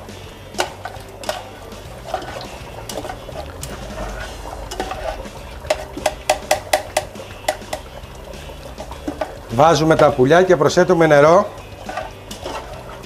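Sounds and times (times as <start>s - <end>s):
utensil stirring a pan: 0.0s - 13.0s.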